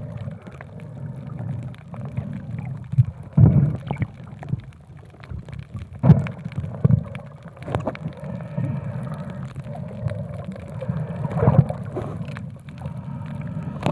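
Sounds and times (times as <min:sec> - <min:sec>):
low underwater rumble: 0:00.0 - 0:13.9
underwater water gurgling: 0:00.0 - 0:13.9.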